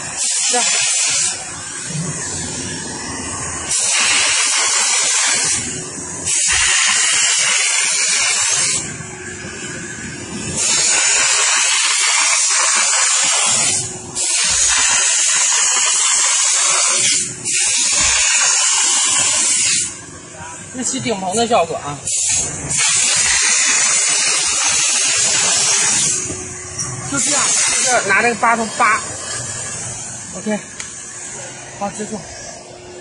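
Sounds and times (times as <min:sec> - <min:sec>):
steam nozzle hissing: 0:00.0 - 0:20.1, 0:20.8 - 0:32.7.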